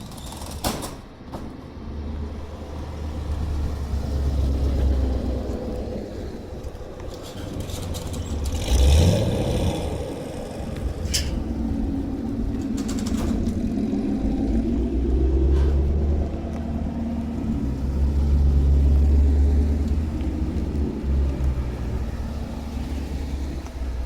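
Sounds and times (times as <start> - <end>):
cars driving past: 1.1 - 24.0.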